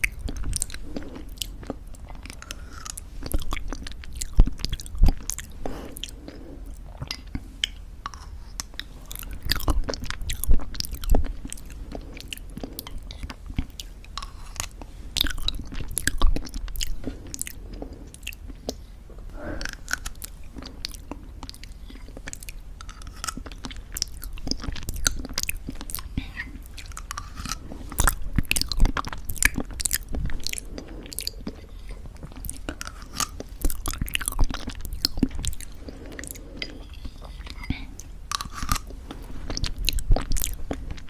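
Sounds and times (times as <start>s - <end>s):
chewing crunchy granola: 0.0s - 41.0s
wet mouth sounds: 0.0s - 41.0s.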